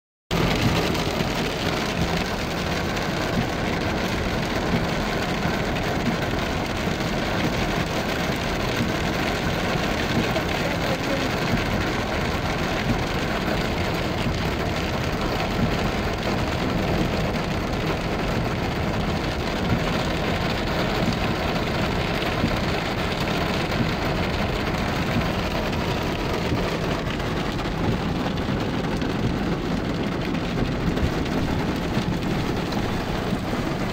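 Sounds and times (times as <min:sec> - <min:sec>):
heavy rain on a car: 0:00.3 - 0:33.9.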